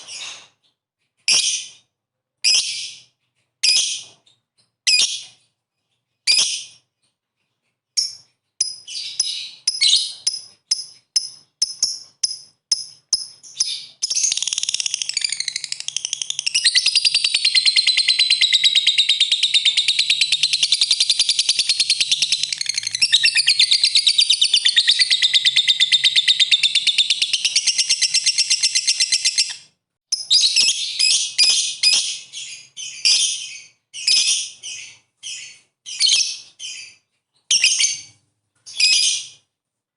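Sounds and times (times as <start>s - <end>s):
bird chirping and chattering: 0.0s - 39.4s.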